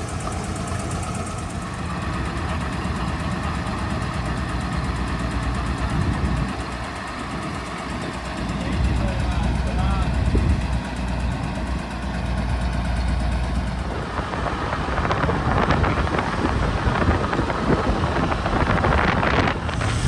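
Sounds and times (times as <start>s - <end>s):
motorbike engine and road noise: 0.0s - 20.0s
wind rumbling on microphone: 0.0s - 20.0s.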